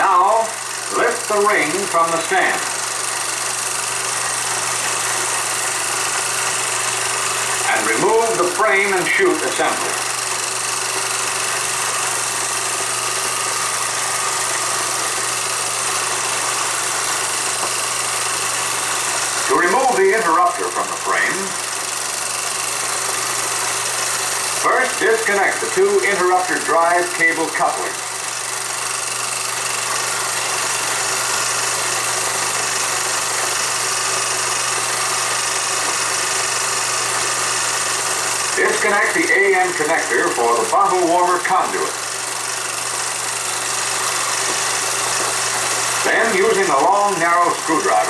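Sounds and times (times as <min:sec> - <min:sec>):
film projector whirring: 0:00.0 - 0:48.0.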